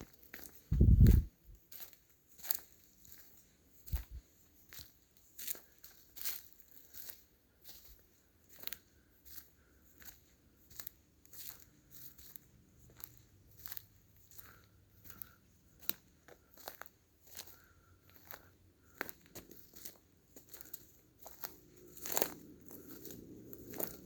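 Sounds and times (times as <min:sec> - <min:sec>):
footsteps crunching on path: 0:00.0 - 0:24.0.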